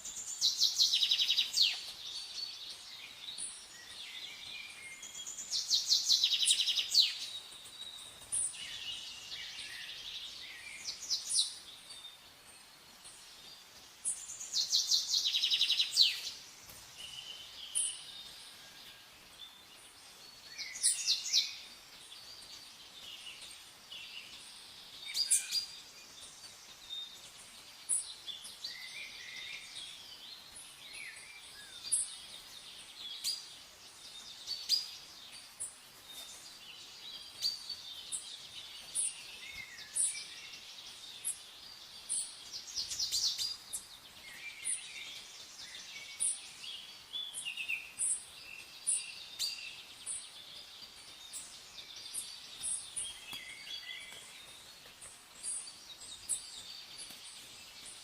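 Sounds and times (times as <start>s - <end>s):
bird chirps and calls: 0.0s - 18.7s, 19.4s - 58.0s.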